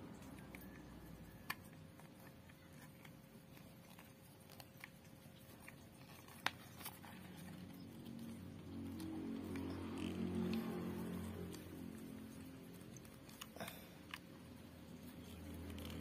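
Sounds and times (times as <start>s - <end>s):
plastic parts handled: 0.2s - 16.0s.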